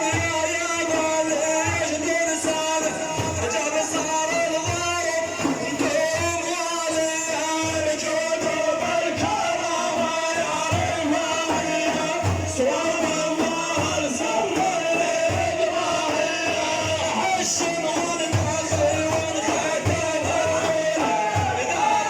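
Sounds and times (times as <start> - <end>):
low drum beat: 0.0 - 22.0
man singing: 0.0 - 22.0.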